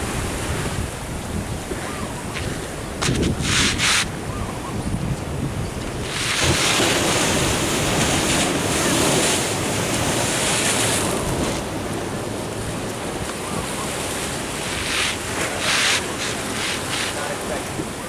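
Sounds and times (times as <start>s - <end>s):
ocean waves washing ashore: 0.0s - 18.0s
wind buffeting microphone: 0.0s - 18.0s.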